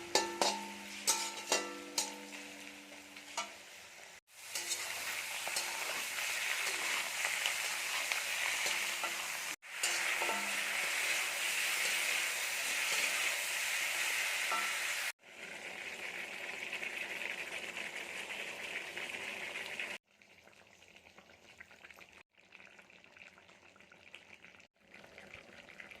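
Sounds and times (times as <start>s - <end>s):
chicken sizzling in oil in a pan: 0.0s - 26.0s.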